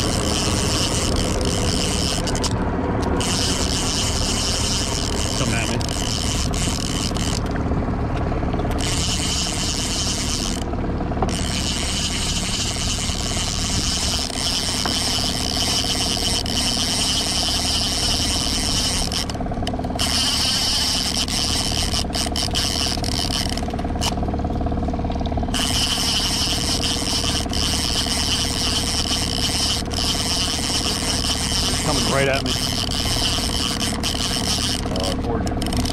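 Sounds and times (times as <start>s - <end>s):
boat motor running: 0.0s - 35.9s.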